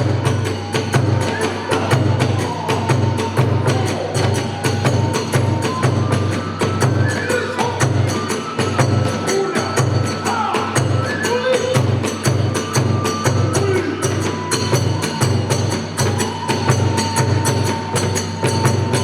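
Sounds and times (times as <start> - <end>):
drum beating steady rhythm: 0.0 - 19.0
flute playing gliding melody: 0.0 - 19.0.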